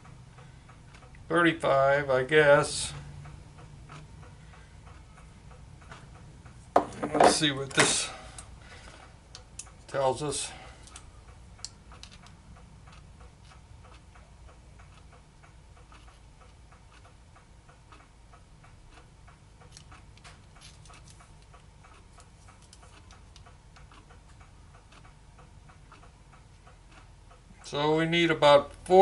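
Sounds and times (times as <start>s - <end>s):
rapid steady ticking: 0.0s - 6.8s, 8.3s - 29.0s.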